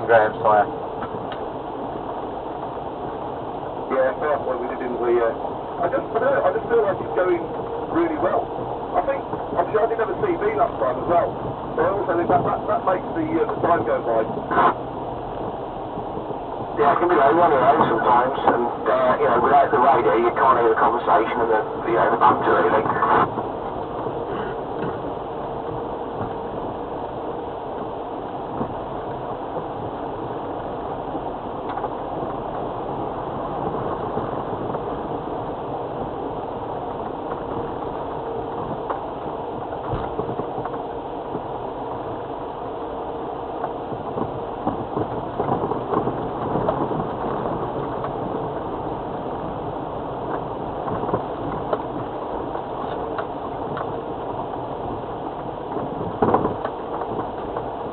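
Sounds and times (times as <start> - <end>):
tyres on wet rough track: 0.0 - 57.9.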